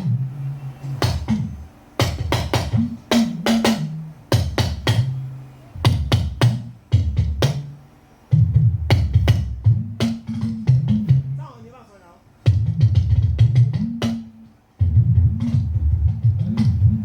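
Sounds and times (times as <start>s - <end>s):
talking drum beating: 1.0s - 5.2s, 5.8s - 7.8s, 8.4s - 17.0s.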